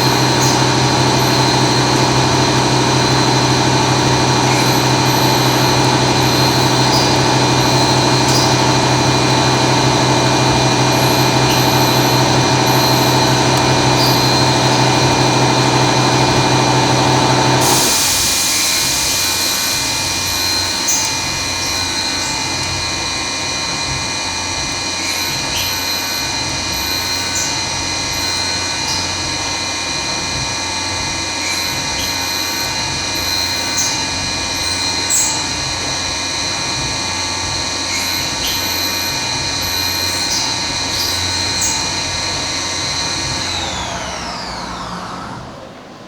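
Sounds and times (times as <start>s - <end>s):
milling machine spindle whining: 0.0s - 46.0s.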